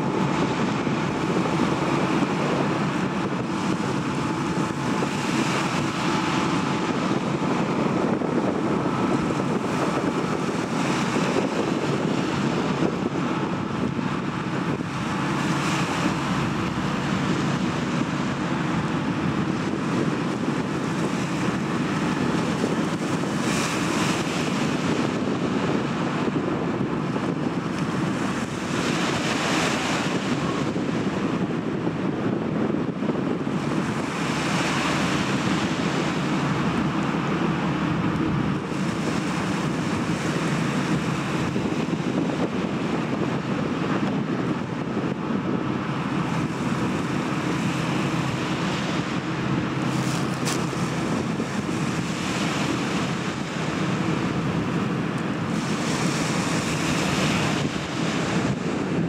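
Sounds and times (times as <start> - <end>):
ship engine low drone: 0.0 - 59.0
waves washing: 0.0 - 59.0
wind on microphone: 0.0 - 59.0.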